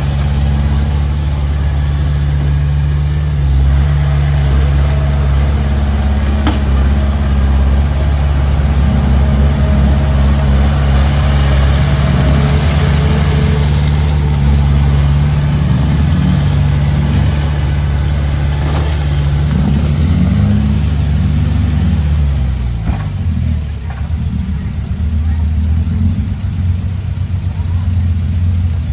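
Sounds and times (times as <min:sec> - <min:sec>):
heavy diesel engine working: 0:00.0 - 0:28.9.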